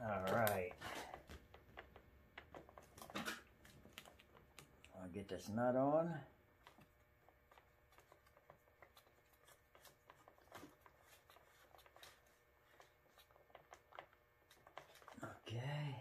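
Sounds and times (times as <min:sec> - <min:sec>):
small clicks and rubbing: 0:00.1 - 0:05.0, 0:06.6 - 0:15.3.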